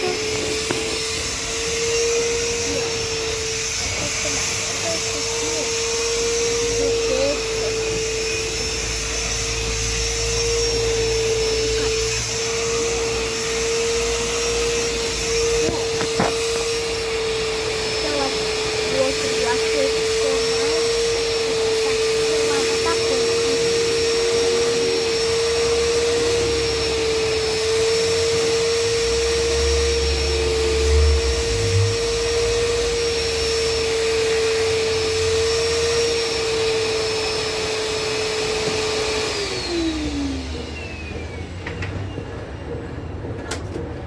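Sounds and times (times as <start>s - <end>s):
washing machine motor whining: 0.0s - 44.0s.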